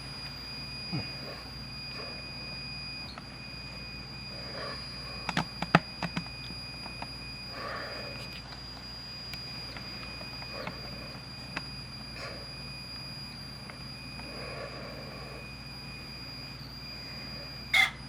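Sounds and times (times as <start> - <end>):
cassette deck high-pitched squeal: 0.0 - 18.0.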